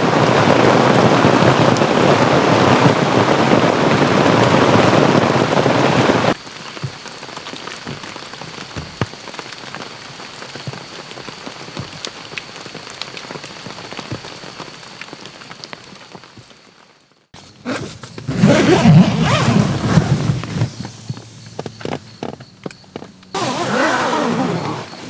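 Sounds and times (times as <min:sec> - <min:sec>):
rain pattering on tarp: 0:00.0 - 0:25.0.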